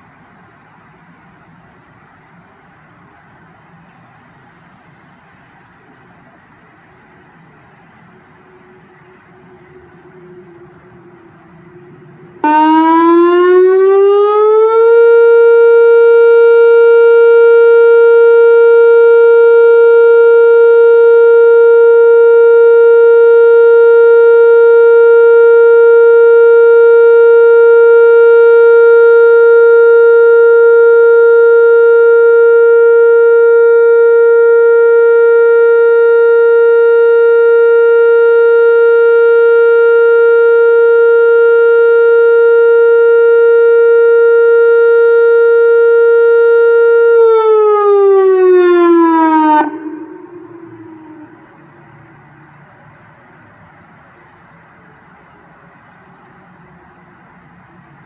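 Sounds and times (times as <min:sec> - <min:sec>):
outdoor warning siren: 0:00.0 - 0:58.0.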